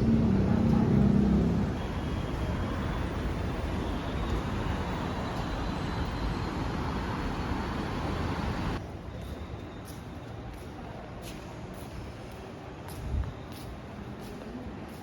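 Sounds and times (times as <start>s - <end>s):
road and vehicle noise: 0.0s - 15.0s.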